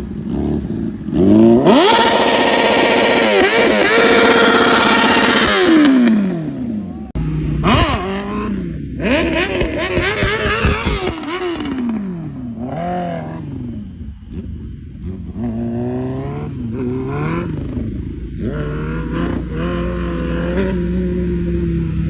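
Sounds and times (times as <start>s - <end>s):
sport motorcycle engine revving: 0.0s - 22.0s.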